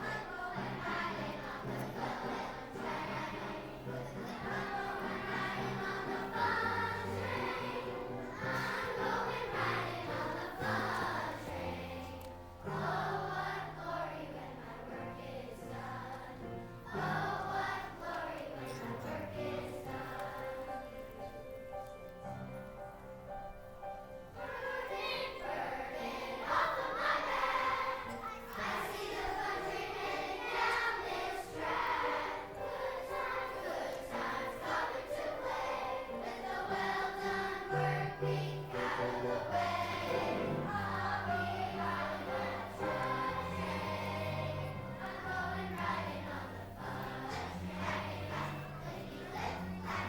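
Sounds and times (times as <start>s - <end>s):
choir singing: 0.0s - 21.4s, 24.3s - 50.0s.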